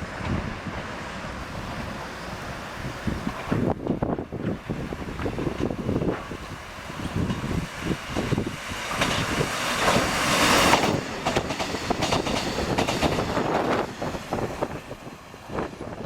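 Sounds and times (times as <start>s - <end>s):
train rushing past: 0.0s - 16.0s
train wheels clacking: 1.8s - 16.0s.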